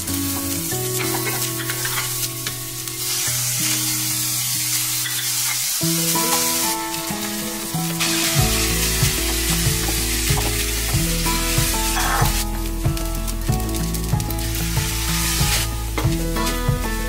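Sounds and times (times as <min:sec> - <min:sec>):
background music: 0:00.0 - 0:17.0
vegetables sizzling in a frying pan: 0:00.0 - 0:17.0.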